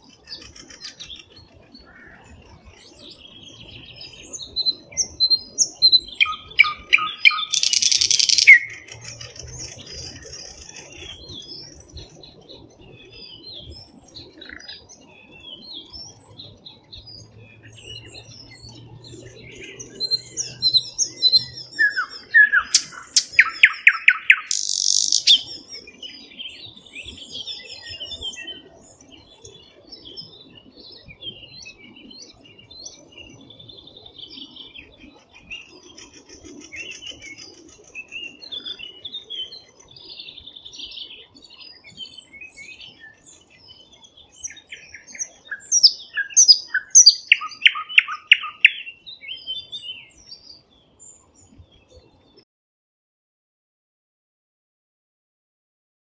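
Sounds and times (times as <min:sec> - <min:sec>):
bird song with whistles and rattle: 0:00.0 - 0:52.3
faint scattered bird song: 0:00.0 - 0:52.5.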